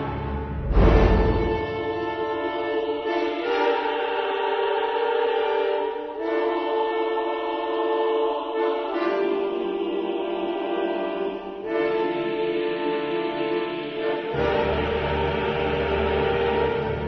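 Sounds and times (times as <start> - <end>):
choir-like background music: 0.0 - 17.0.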